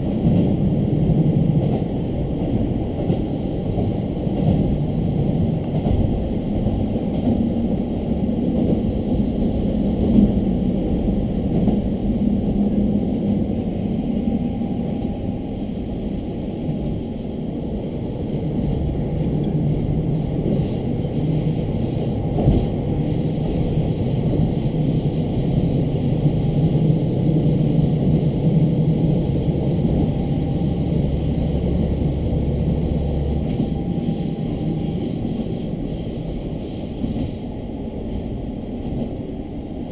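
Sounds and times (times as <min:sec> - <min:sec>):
wheels rumbling on rail: 0:00.0 - 0:39.9.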